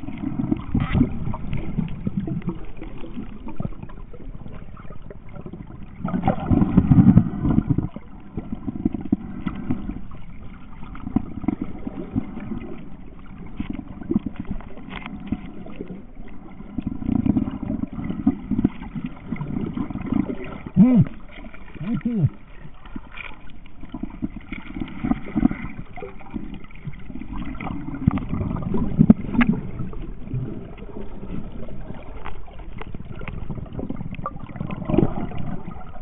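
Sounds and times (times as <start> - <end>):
muffled underwater rumble: 0.0 - 36.0.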